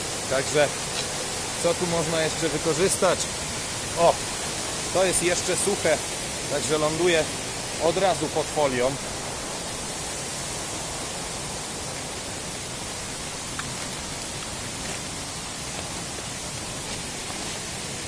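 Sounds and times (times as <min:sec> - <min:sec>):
rain falling: 0:00.0 - 0:18.0
waterfall rushing: 0:00.0 - 0:18.0.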